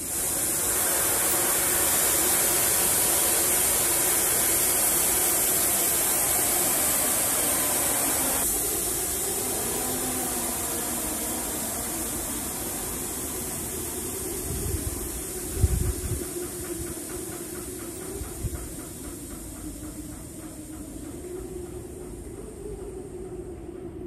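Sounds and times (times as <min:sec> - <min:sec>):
air hissing from air bags: 0:00.0 - 0:23.6.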